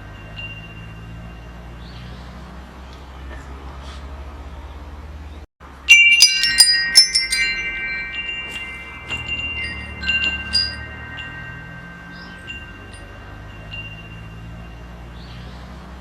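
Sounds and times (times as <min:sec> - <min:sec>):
metal wind chimes ringing: 0:00.0 - 0:02.7, 0:05.6 - 0:16.0.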